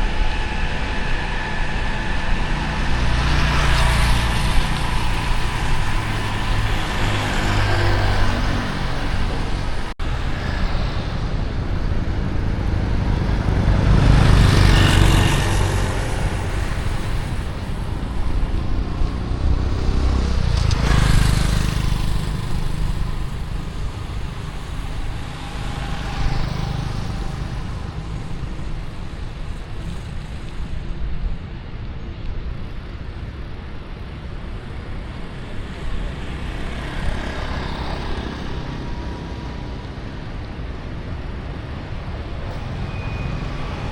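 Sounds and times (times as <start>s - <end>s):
city street traffic: 0.0s - 43.9s
vehicles passing close by: 0.0s - 43.9s.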